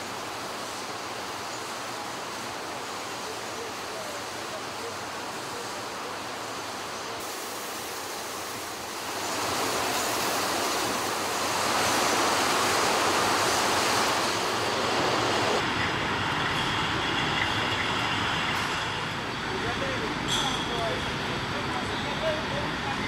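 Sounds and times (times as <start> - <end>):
glass bottle production line roar: 0.0 - 23.0.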